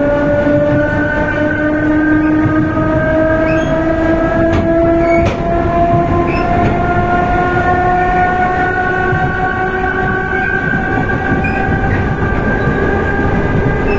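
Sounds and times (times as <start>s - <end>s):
electric train motor whine: 0.0s - 13.9s
wheels rumbling on track: 0.0s - 13.9s.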